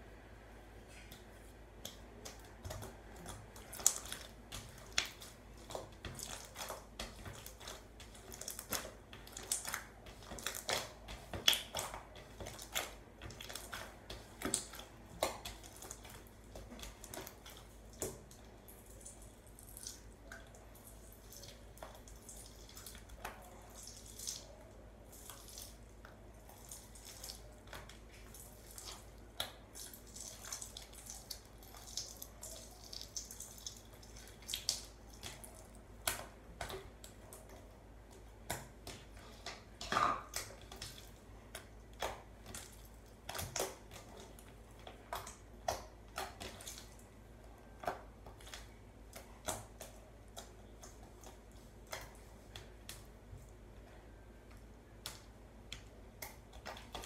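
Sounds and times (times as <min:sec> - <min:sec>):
slime squished by hand: 0:01.1 - 0:54.2.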